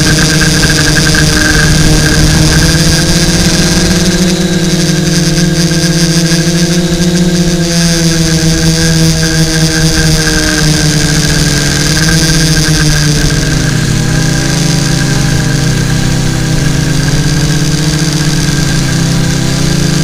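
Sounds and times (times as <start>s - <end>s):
drone motors buzzing: 0.0s - 20.0s.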